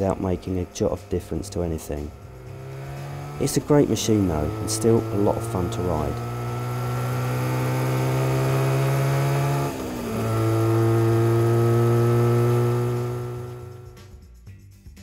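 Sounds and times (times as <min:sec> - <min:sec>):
two-stroke motorcycle engine running: 0:00.0 - 0:14.2.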